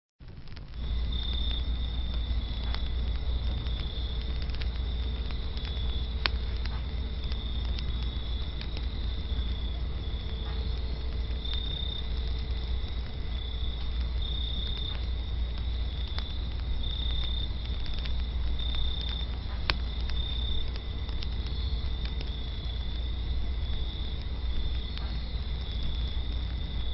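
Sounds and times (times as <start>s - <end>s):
insect trill: 0.2s - 26.9s
low rumble: 0.2s - 26.9s
wood fire crackling: 0.2s - 26.9s.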